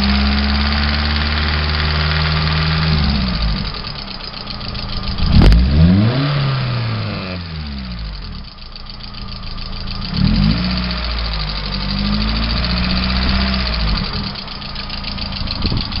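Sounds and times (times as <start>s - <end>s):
car engine revving: 0.0s - 16.0s
fast ticking engine knock: 0.2s - 6.1s, 8.2s - 16.0s.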